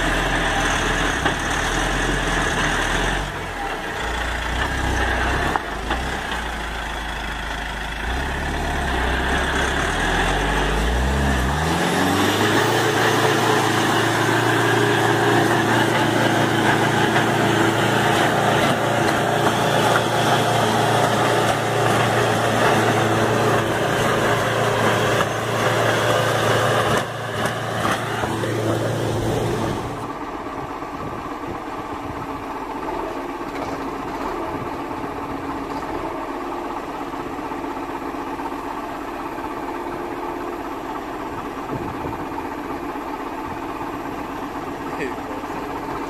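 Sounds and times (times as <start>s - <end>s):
truck engine with wheels spinning: 0.0s - 46.0s
wheel loader engine: 0.0s - 46.0s.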